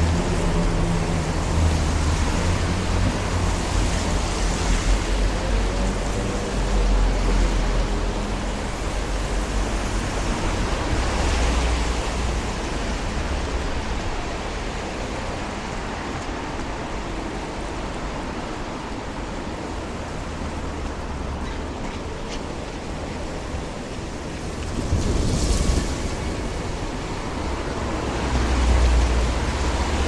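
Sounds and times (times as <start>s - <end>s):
low traffic rumble: 0.0s - 30.0s.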